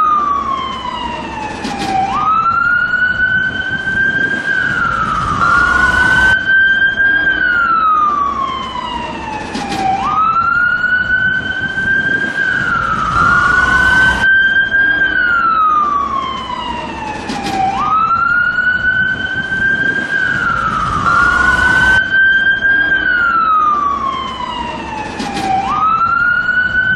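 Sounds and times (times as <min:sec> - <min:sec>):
ambulance siren wailing: 0:00.0 - 0:26.9.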